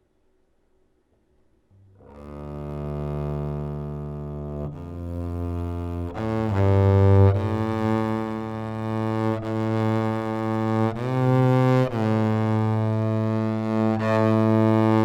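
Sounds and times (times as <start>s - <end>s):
bowed string instrument: 1.8s - 15.0s.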